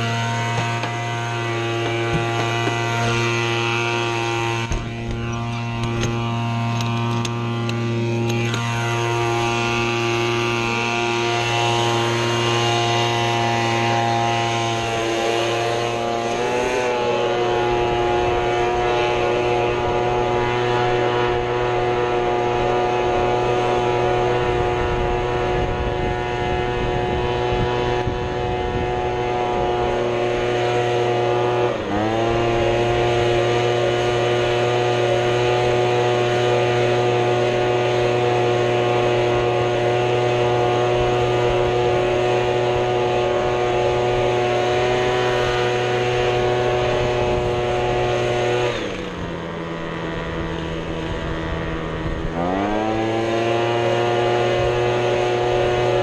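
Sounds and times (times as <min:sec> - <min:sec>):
small gas engine running: 0:00.0 - 0:56.0.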